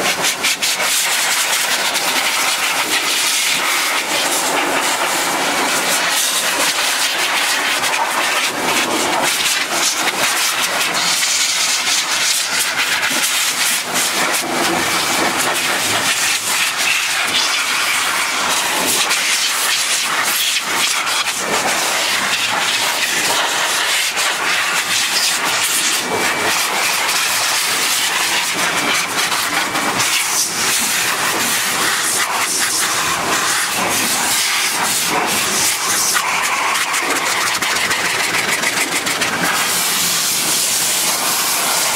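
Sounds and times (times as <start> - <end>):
air cleaning gun hissing: 0.0 - 41.9.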